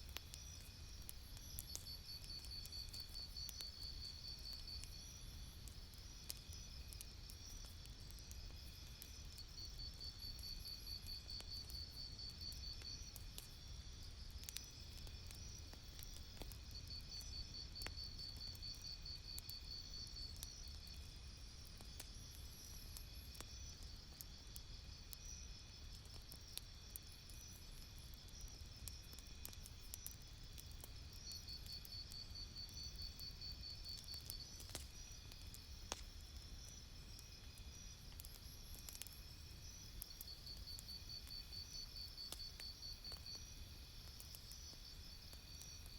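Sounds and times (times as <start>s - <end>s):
campfire crackling: 0.0s - 45.9s
insects trilling: 0.1s - 45.9s.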